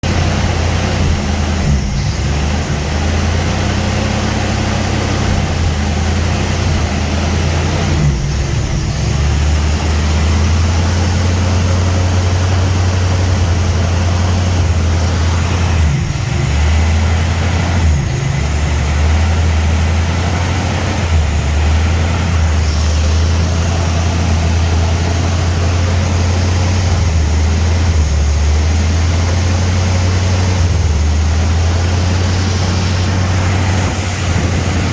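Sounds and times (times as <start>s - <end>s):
engine surging idle: 0.0s - 34.9s.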